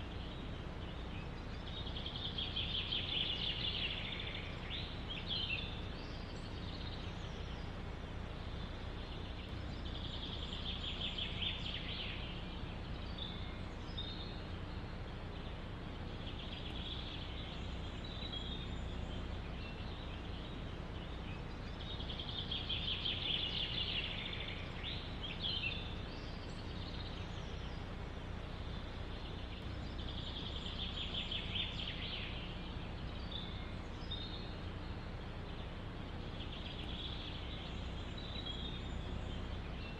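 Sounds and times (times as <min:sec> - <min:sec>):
songbird singing trills: 0:00.0 - 0:39.9
wind rumbling in forest: 0:00.0 - 0:39.9.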